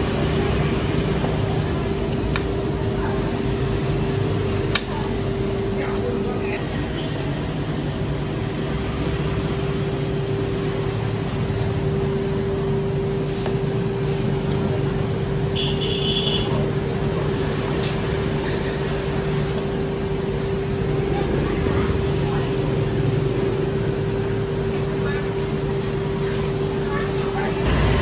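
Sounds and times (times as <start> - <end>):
constant mechanical hum: 0.0 - 28.0
low traffic rumble: 0.0 - 28.0.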